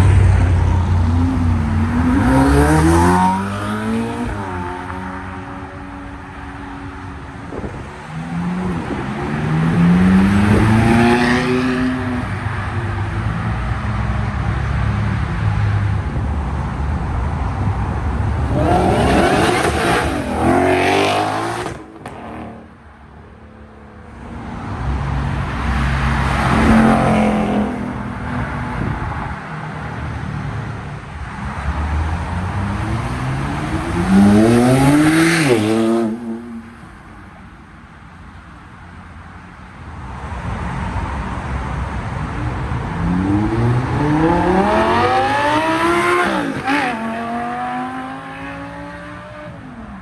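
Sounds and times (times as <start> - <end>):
car engines revving past: 0.0 - 15.0, 18.1 - 37.0, 42.1 - 50.0.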